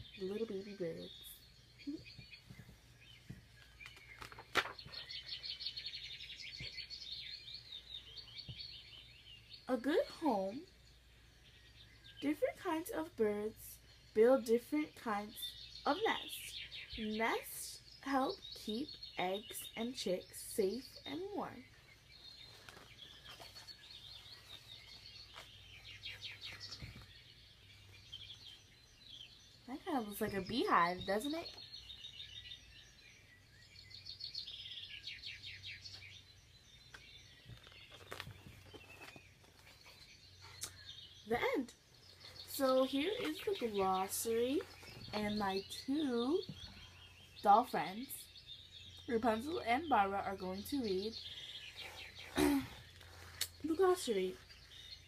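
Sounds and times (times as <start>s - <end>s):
baby birds chirping: 0.0s - 55.0s.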